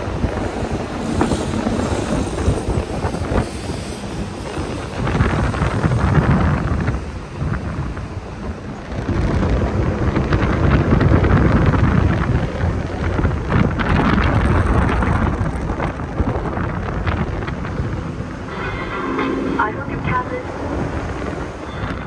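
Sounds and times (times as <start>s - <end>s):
bus running: 0.0s - 22.0s
wind buffeting microphone: 0.0s - 22.0s.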